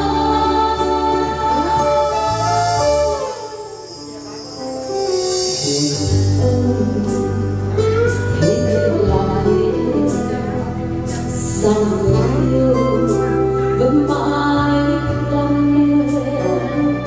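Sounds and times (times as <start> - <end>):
acoustic guitar: 0.0 - 17.0
keyboard accompaniment: 0.0 - 17.0.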